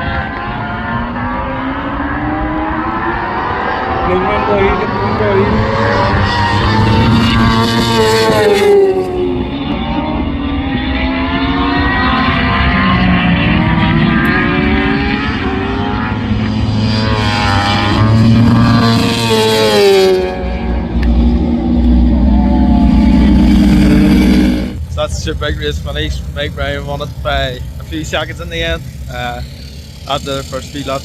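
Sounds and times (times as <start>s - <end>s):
racing motorcycles passing: 0.0s - 31.0s.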